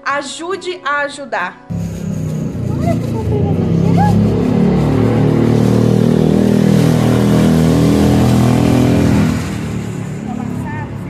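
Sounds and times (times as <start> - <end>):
vehicle engine humming: 1.7 - 11.0.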